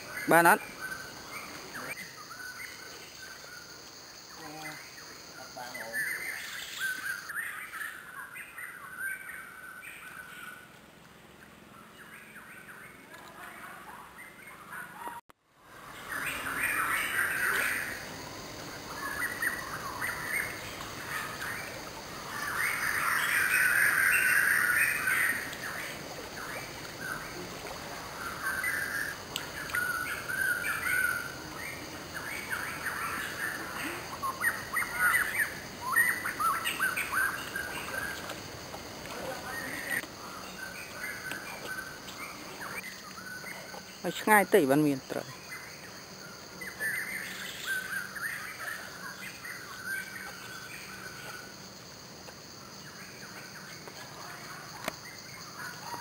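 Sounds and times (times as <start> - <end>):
birds chirping and calling: 0.0 - 10.6, 15.9 - 51.6.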